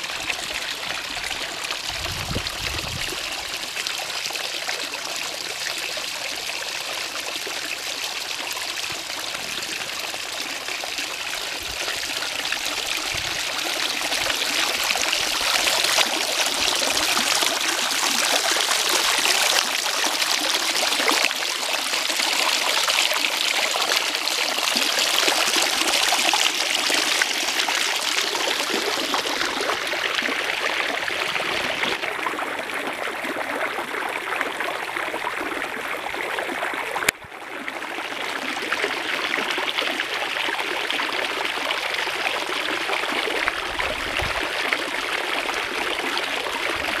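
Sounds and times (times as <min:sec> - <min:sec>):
fountain water splashing and trickling: 0:00.0 - 0:47.0.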